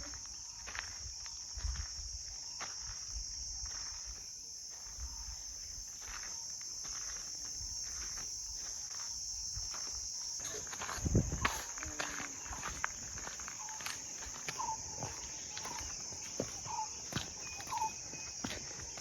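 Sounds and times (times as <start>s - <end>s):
high-pitched insect drone: 0.0s - 19.0s
faint scuffing footsteps: 0.7s - 19.0s.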